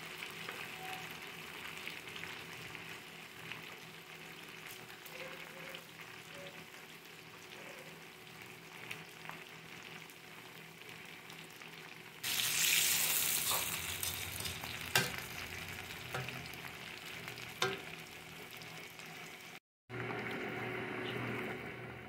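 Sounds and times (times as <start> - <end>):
potatoes sizzling in oil: 0.0 - 19.6.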